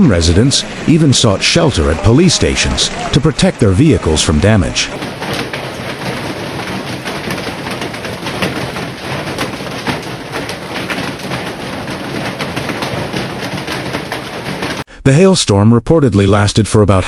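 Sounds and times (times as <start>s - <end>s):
hail and heavy rain clattering: 0.0s - 14.9s.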